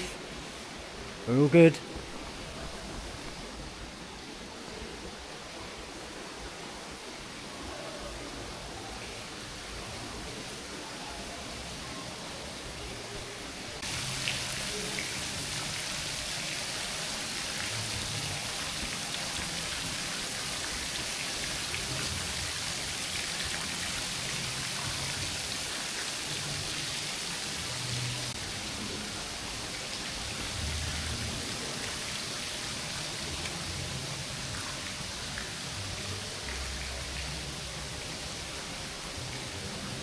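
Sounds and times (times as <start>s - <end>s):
steady rain hissing: 0.0s - 40.0s.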